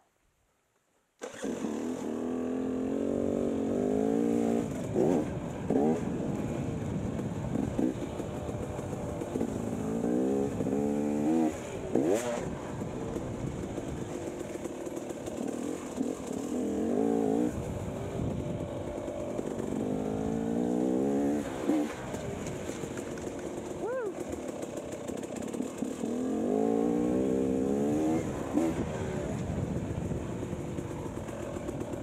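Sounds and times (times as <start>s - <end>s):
dirt bike engine revving: 1.2s - 32.0s.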